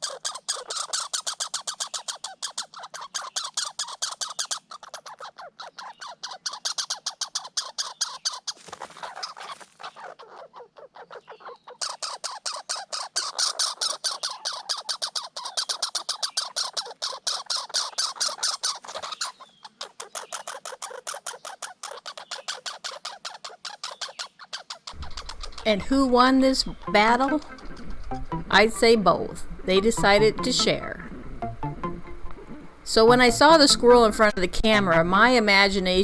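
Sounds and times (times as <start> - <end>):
squirrels chattering: 0.0 - 36.0.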